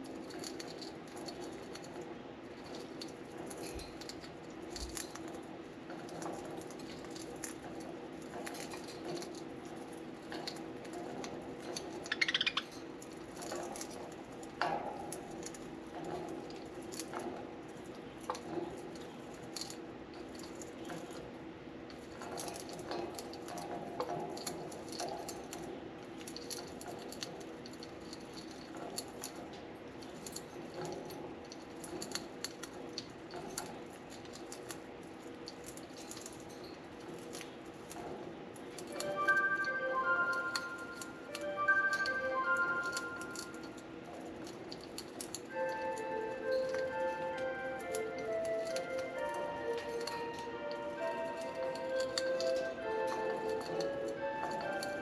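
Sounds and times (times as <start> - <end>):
birds chewing wooden toy: 0.0 - 55.0.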